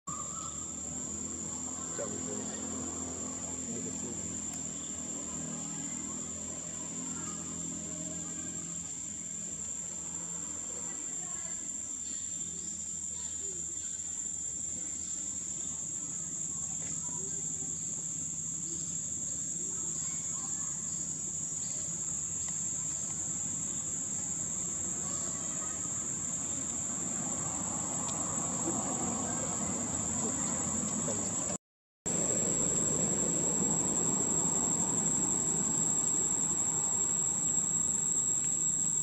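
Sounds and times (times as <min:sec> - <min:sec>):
insects droning: 0:00.1 - 0:39.0.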